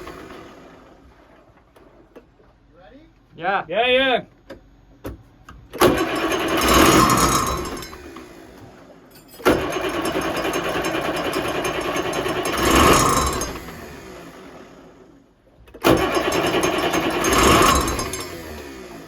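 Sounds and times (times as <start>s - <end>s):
diesel engine cranking: 0.0s - 2.5s, 5.6s - 19.0s.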